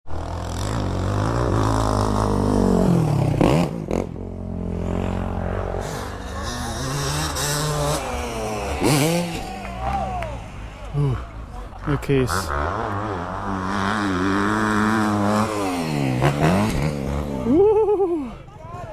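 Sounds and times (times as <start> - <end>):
dirt bike engine revving: 0.1 - 18.4.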